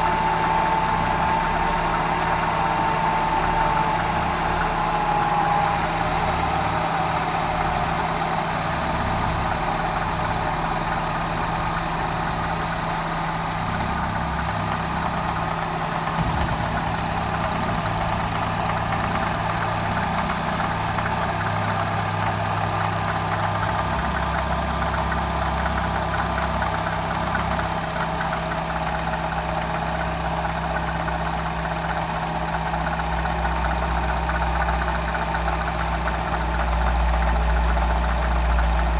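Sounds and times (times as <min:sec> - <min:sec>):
petrol engine idling: 0:00.0 - 0:38.9.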